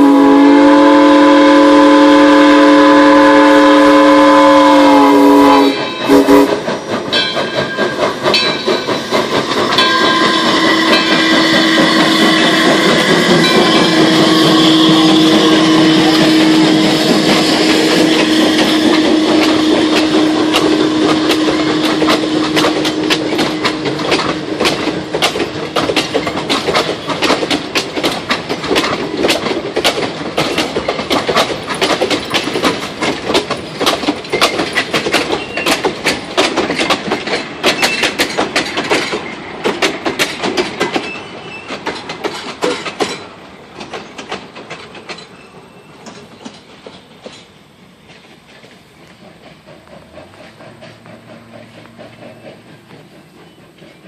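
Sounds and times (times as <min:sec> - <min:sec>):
train wheels clattering over rail joints: 0:04.4 - 0:54.0.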